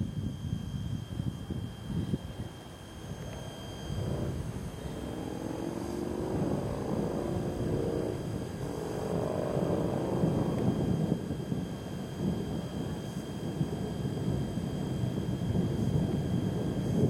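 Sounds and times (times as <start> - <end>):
faint high whine: 0.0 - 17.0
thunder rumbling: 2.4 - 17.0.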